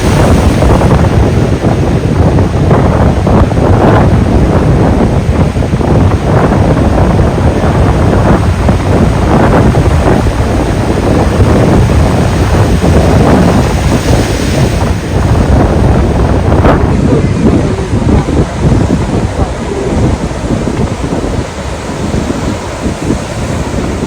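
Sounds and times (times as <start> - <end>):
ocean surf: 0.0 - 24.0
wind buffeting microphone: 0.0 - 24.0.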